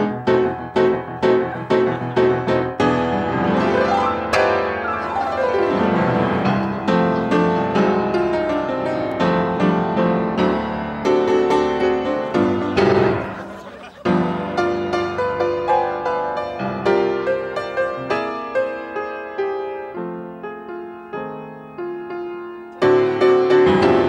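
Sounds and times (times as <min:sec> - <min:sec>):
solo piano bouncy melody: 0:00.0 - 0:24.0.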